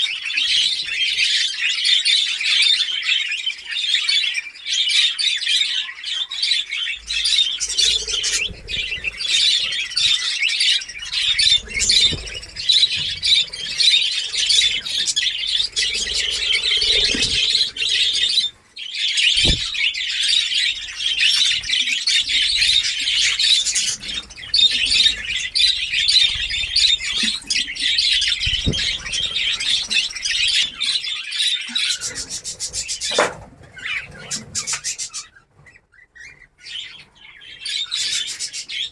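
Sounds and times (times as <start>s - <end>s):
budgerigars chattering and chirping: 0.1s - 38.9s.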